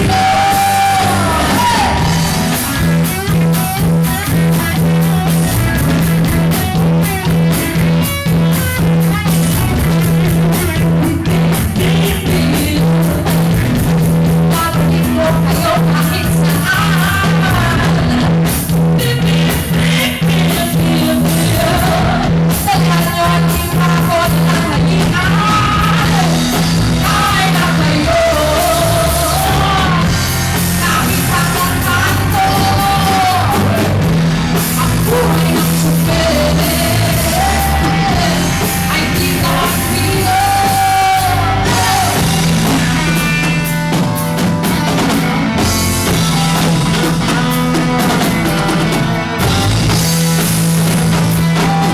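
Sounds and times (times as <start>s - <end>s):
person singing: 0.0s - 3.8s, 9.2s - 50.2s, 51.1s - 51.9s
bass line: 0.0s - 51.9s
rock band playing live: 0.0s - 51.9s.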